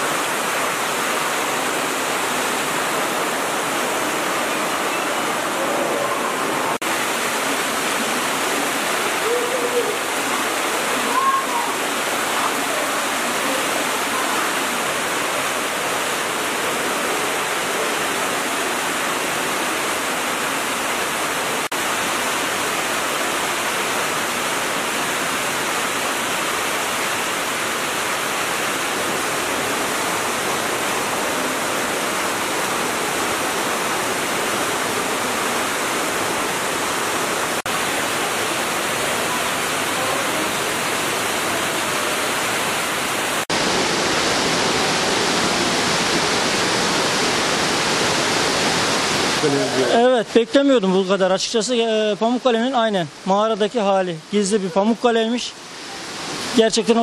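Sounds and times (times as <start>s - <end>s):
water rushing over terraces: 0.0s - 57.0s.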